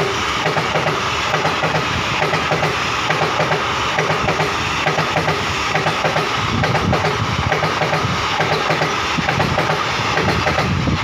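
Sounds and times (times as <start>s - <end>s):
rhythmic clatter over rail joints: 0.0s - 11.0s
train wheels rushing on rails: 0.0s - 11.0s.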